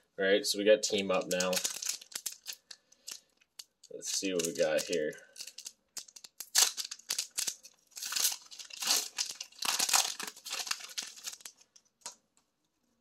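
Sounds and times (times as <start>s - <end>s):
foil wrapper crinkling and tearing: 1.1s - 11.7s.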